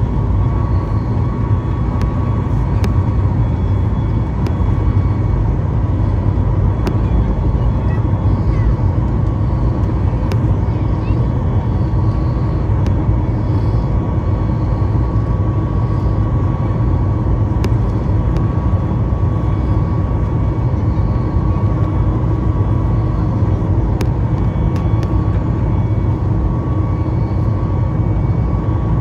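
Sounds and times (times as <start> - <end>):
faint steady hum: 0.0 - 29.0
jet engines roaring in cabin: 0.0 - 29.0.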